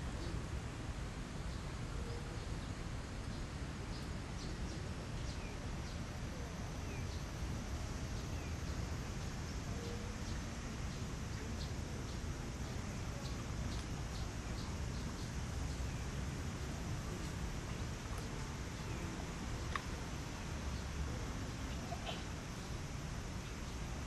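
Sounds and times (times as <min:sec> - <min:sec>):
small birds chirping: 0:03.3 - 0:24.0.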